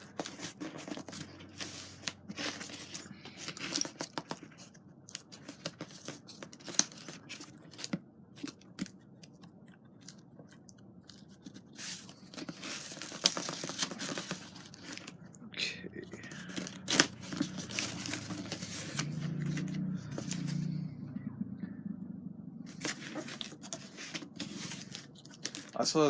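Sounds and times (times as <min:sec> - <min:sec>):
packaging tearing and rustling: 0:00.0 - 0:09.0, 0:09.9 - 0:15.2, 0:16.2 - 0:20.6, 0:22.7 - 0:26.0.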